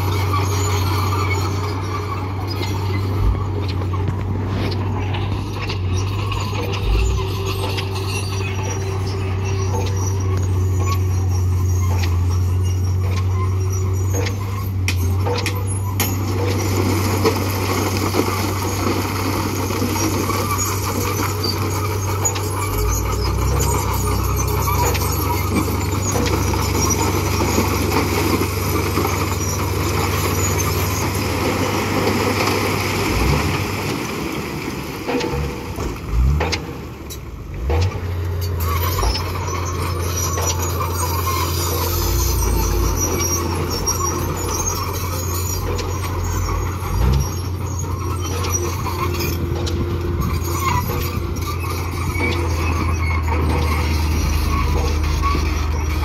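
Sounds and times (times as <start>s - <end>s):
diesel truck engine running: 0.0s - 56.0s
rocks tipping out of truck: 0.0s - 56.0s.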